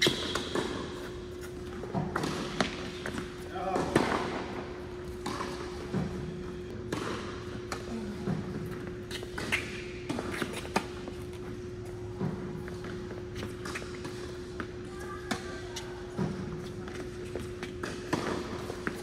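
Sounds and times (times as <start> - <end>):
tennis balls struck and bouncing: 0.0 - 15.5, 16.1 - 19.0.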